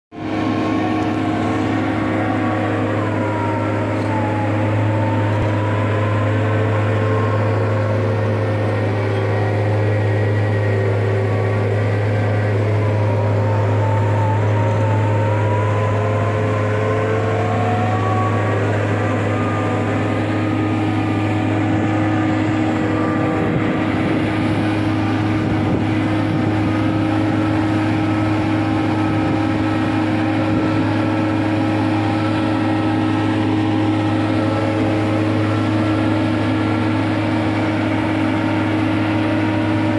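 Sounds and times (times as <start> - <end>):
diesel machinery drone: 0.1 - 39.9
wavering machine whines: 0.1 - 39.9.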